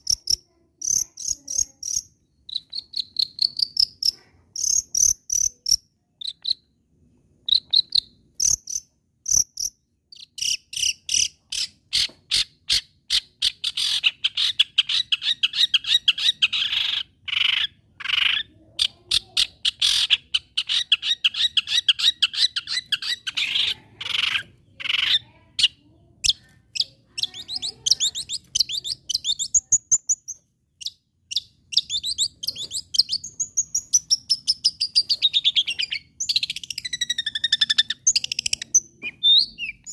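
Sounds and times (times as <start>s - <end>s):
shrike chattering song: 0.0s - 6.6s, 13.5s - 39.9s.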